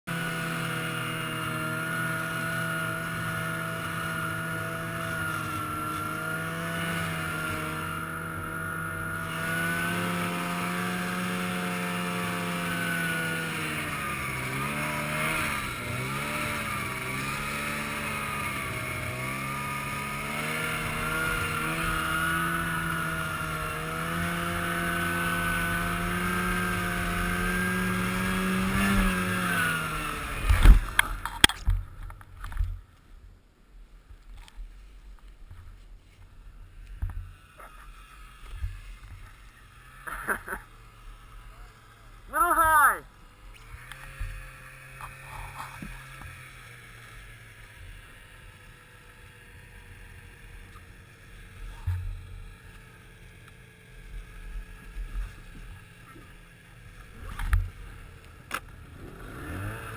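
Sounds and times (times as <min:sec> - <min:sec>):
snowmobile engine running: 0:00.1 - 0:32.9, 0:35.4 - 0:59.9.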